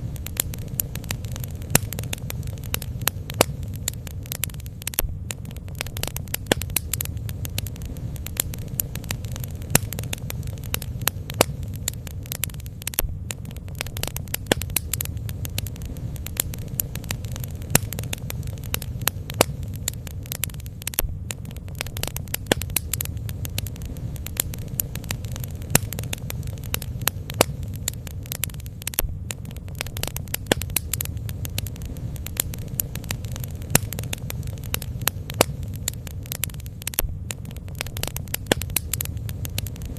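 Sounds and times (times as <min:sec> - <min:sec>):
bonfire crackling and popping: 0:00.0 - 0:39.9
low rumble: 0:00.0 - 0:39.9.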